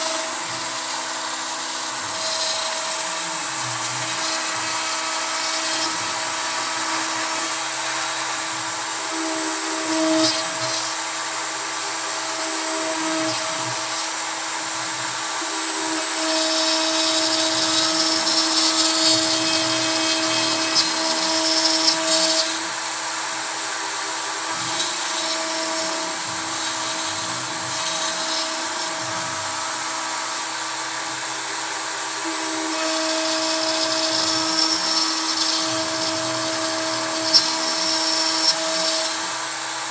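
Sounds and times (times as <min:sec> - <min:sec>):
end mill cutting wood: 0:00.0 - 0:39.9
router spindle whining: 0:00.0 - 0:39.9.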